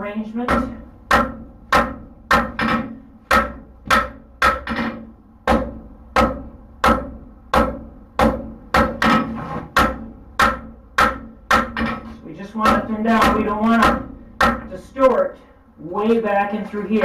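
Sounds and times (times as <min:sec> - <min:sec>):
hammer on hot steel on anvil: 0:00.5 - 0:14.7.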